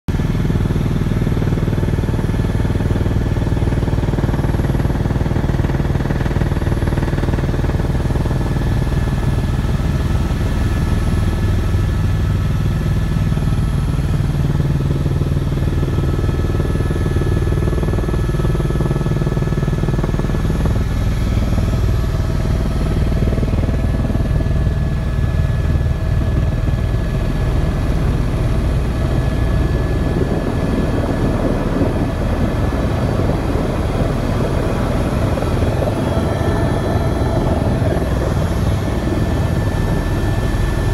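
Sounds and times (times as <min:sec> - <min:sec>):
helicopter rotor and turbine drone: 0:00.1 - 0:40.9
thin steady whines: 0:00.1 - 0:40.9.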